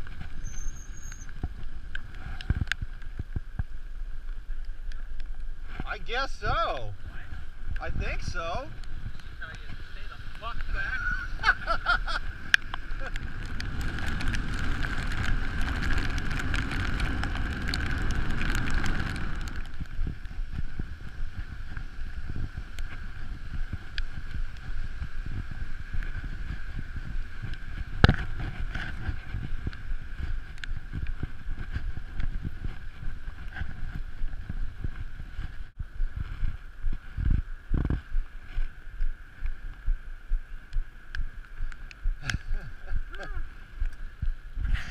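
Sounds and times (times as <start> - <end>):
bicycle road rumble: 0.0 - 44.9
wind rushing over microphone: 0.0 - 44.9.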